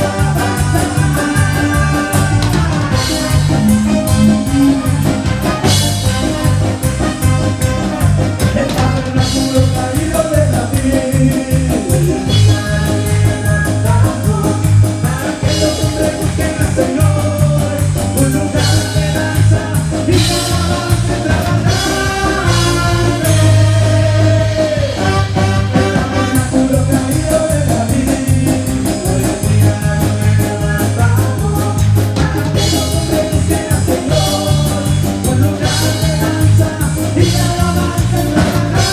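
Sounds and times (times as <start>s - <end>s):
bass: 0.0s - 38.9s
drum kit beat: 0.0s - 38.9s
live band playing latin music: 0.0s - 38.9s
person singing: 0.0s - 38.9s.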